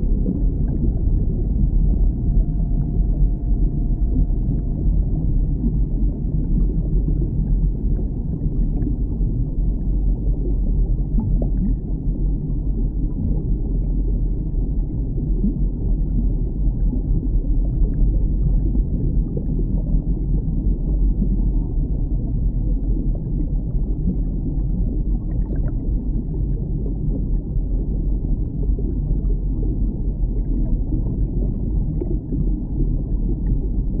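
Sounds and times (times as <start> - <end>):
underwater rumbling wash: 0.0 - 34.0.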